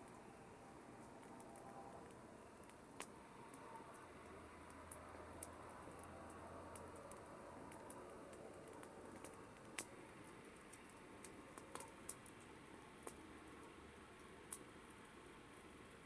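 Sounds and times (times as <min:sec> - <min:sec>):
campfire crackling and popping: 0:00.0 - 0:16.0
hiss of burning: 0:00.0 - 0:16.0.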